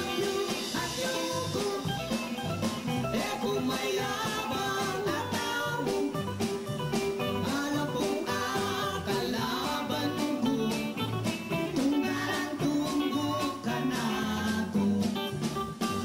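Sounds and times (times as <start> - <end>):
man singing: 0.0 - 6.3, 7.2 - 15.5
drums: 0.0 - 16.0
electric guitar: 0.0 - 16.0.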